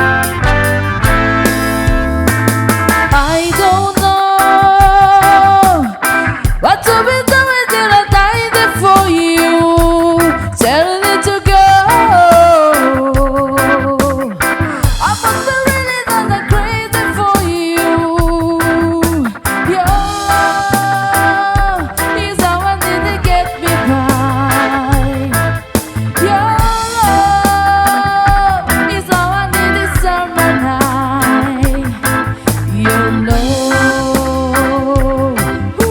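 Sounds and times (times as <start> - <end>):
reggae band playing live: 0.0 - 35.9.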